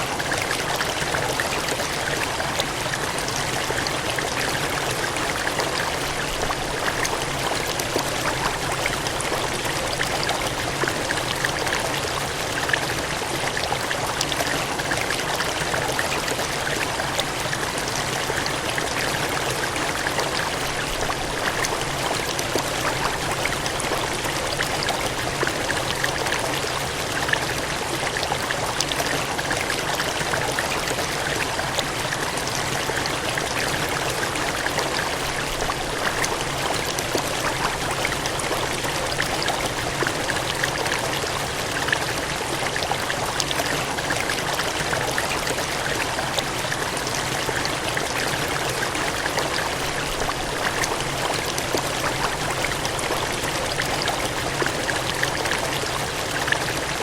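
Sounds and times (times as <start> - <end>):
gushing cascading water: 0.0 - 57.0.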